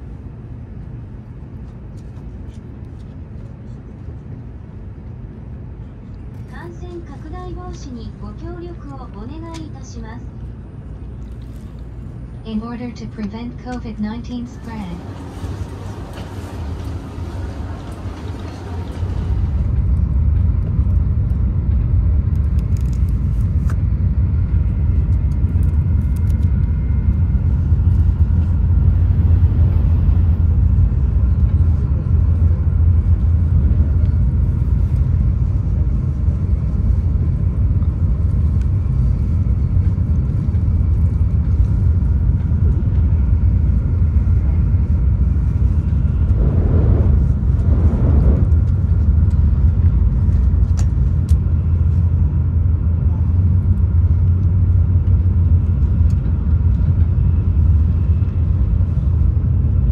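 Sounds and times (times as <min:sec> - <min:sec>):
train rumble inside cabin: 0:00.0 - 0:59.9.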